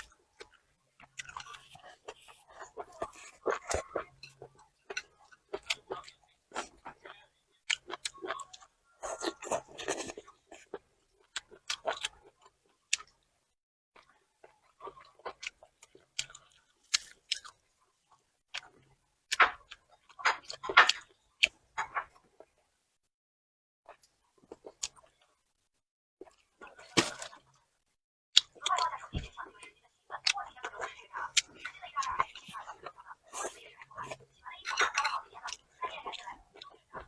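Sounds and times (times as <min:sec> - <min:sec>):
person chewing food: 0:00.0 - 0:13.3, 0:14.0 - 0:22.6, 0:23.9 - 0:25.4, 0:26.2 - 0:27.7, 0:28.4 - 0:37.0.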